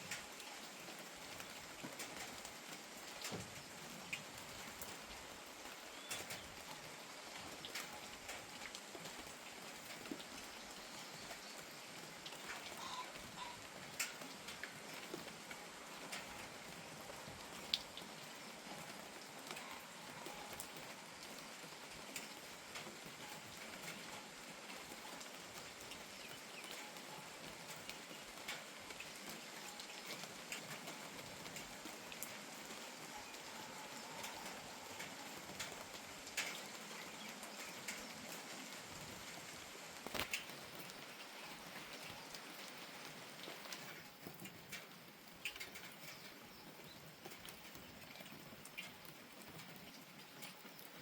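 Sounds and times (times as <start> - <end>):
gentle rain: 0.0 - 51.0
raindrops tapping on surfaces: 0.0 - 51.0.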